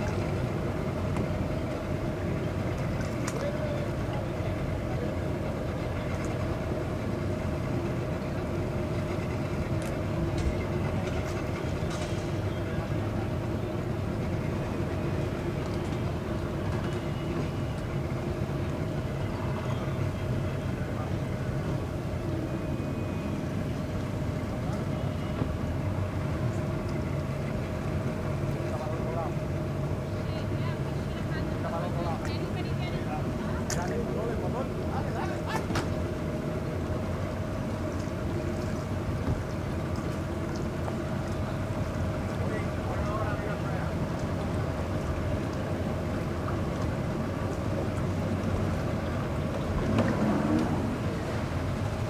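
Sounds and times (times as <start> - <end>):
engine droning at low revs: 0.0 - 52.0.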